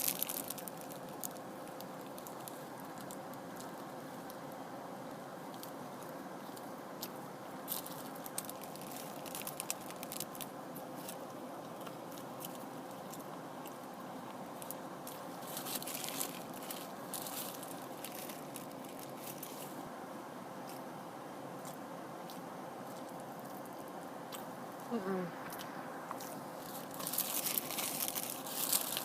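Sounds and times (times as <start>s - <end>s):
biting and chewing crunches: 0.0s - 4.4s, 5.5s - 19.8s, 21.6s - 24.9s, 25.5s - 29.0s
steady hiss: 0.0s - 29.0s.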